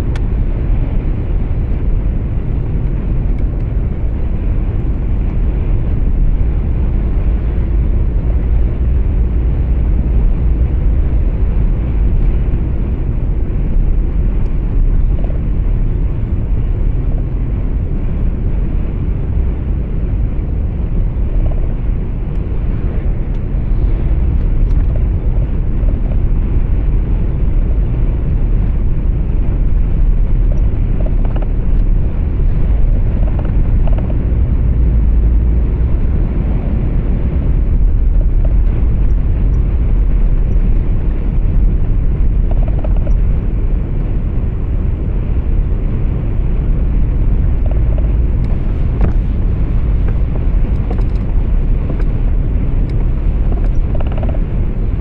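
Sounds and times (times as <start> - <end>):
truck engine and tyre rumble: 0.0 - 55.0.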